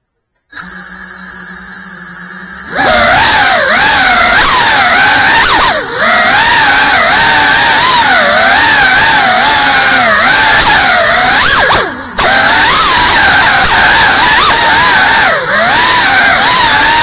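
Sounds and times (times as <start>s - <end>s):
drone propellers whining: 0.5s - 17.0s.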